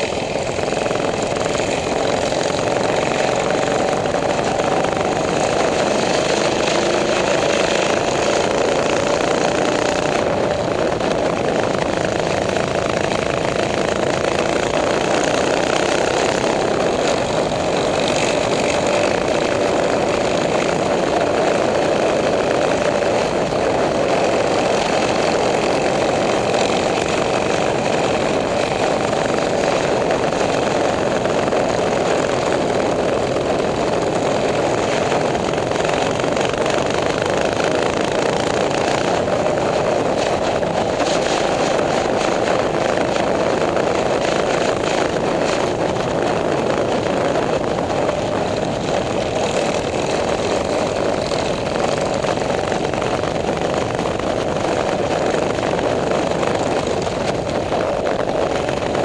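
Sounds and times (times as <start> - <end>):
minibike engines running: 0.0 - 59.0
wind and road noise: 0.0 - 59.0.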